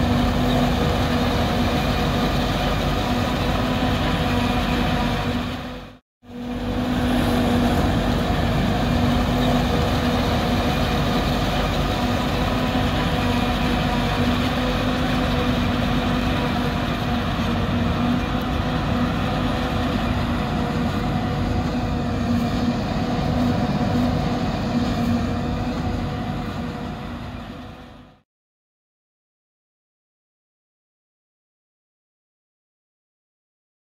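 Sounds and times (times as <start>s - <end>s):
forage harvester running: 0.0s - 28.2s.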